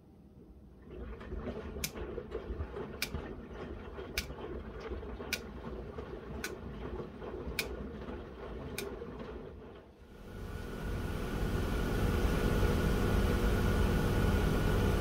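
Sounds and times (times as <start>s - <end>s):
washing machine drum running: 0.9s - 15.0s.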